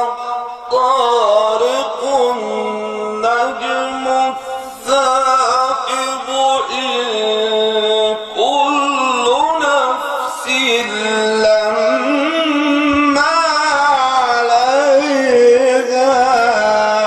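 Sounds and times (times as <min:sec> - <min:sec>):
person singing folk song: 0:00.0 - 0:17.0.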